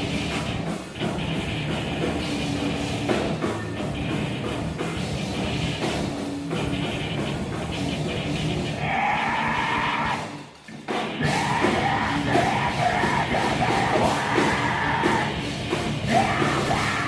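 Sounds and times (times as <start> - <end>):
drum kit beat: 0.0 - 17.0
rock band playing: 0.0 - 17.0.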